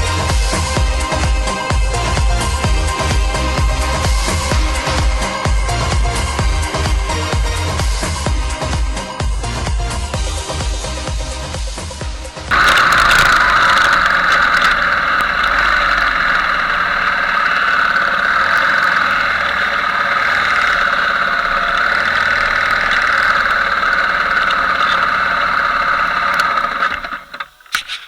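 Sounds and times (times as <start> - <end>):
motorbike engine running: 0.0 - 27.5.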